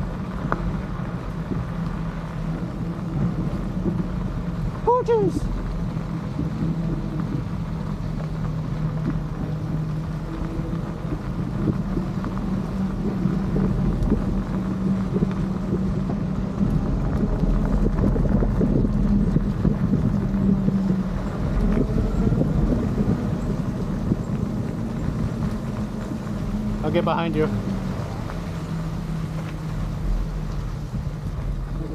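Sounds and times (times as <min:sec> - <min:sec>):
low hum of motor and tyres: 0:00.0 - 0:31.9
wind on microphone: 0:00.0 - 0:31.9.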